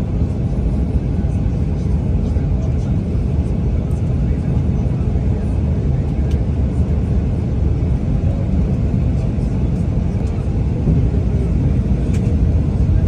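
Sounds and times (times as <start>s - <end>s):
jet engines rumbling in cabin: 0.0s - 13.0s.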